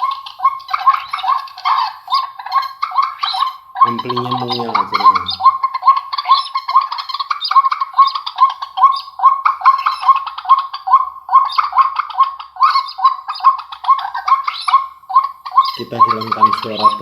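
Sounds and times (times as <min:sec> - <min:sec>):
recorded bird chirps over loudspeaker: 0:00.0 - 0:17.0.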